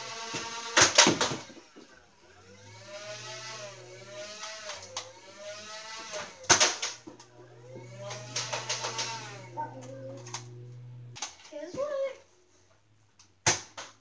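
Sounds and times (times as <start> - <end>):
toy blaster motor whirring: 0.0 - 12.1.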